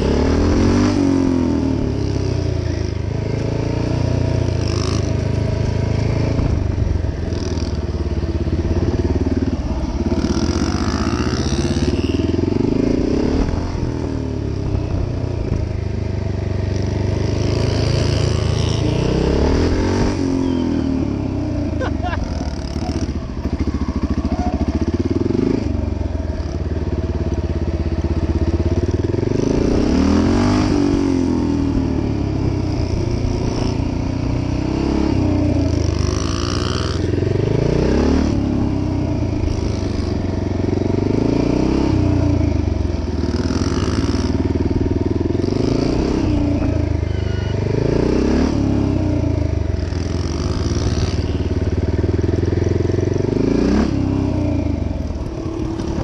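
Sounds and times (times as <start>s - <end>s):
dirt bike engine revving: 0.0s - 15.6s, 16.6s - 26.9s, 28.0s - 56.0s.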